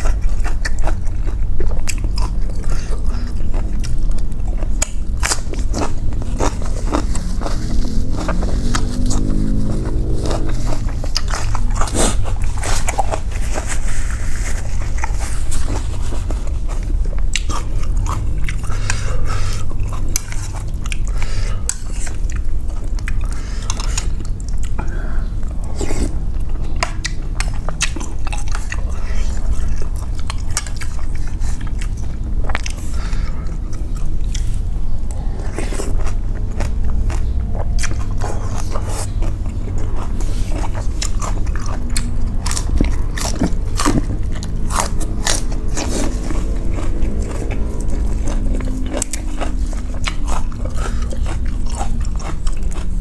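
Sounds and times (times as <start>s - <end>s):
person chewing food: 0.0s - 53.0s
steady low hum: 0.0s - 53.0s.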